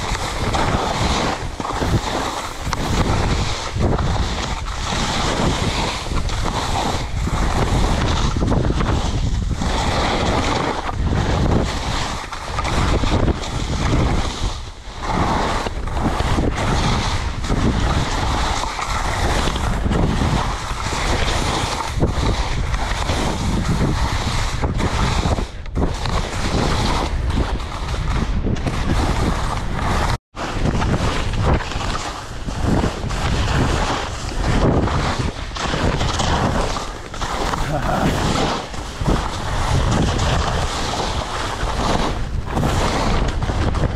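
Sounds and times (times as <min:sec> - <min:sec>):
skis carving through snow: 0:00.0 - 0:43.9
wind on camera microphone: 0:00.0 - 0:43.9.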